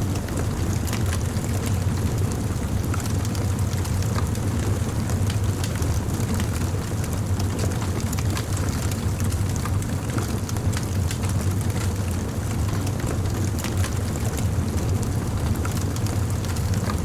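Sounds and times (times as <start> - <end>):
wood fire rumbling: 0.0 - 17.0
fire crackling and popping: 0.1 - 17.0.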